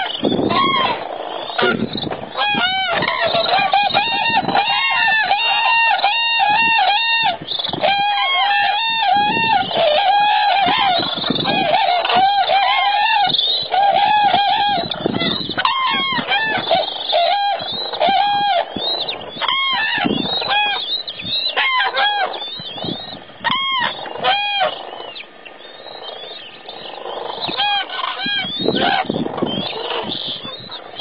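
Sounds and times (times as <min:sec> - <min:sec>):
cranes trumpeting calls: 0:00.0 - 0:31.0.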